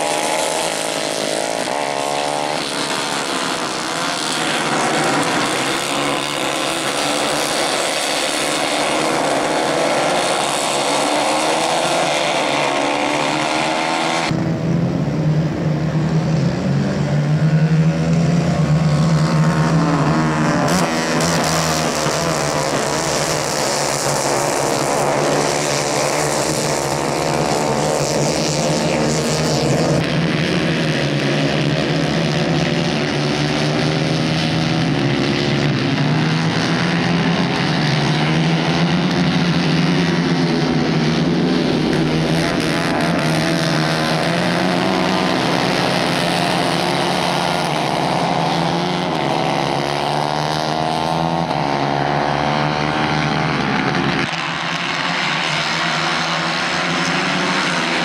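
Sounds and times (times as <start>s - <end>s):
racing kart engines: 0.0s - 58.0s.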